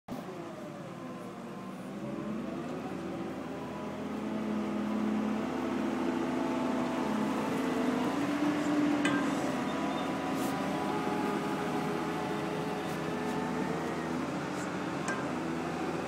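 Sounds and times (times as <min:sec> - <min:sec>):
heavy machine engine running: 0:00.1 - 0:16.0.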